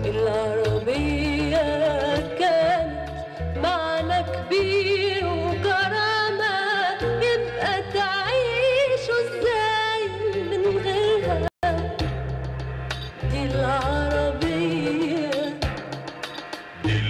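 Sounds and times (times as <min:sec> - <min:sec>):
woman singing: 0:00.0 - 0:12.1, 0:13.2 - 0:16.0
instrumental accompaniment with bass: 0:00.0 - 0:17.0.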